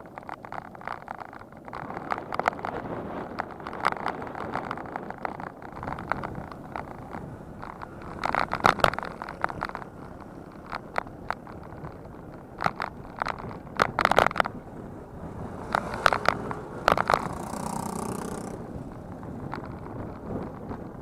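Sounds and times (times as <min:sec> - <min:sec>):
bicycle rattling over rough ground: 0:00.0 - 0:21.0.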